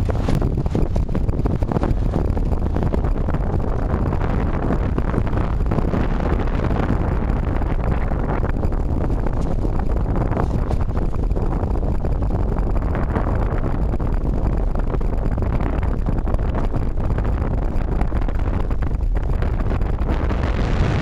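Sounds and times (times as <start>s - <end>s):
strong wind gusting through trees: 0.0s - 21.0s.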